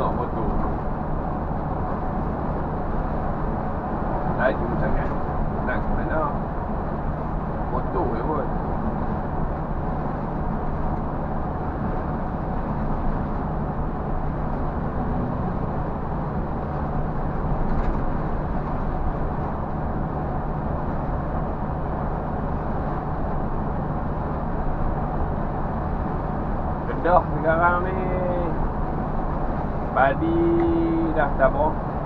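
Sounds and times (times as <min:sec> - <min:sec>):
bus diesel engine running: 0:00.0 - 0:32.0
tyre and road noise: 0:00.0 - 0:32.0.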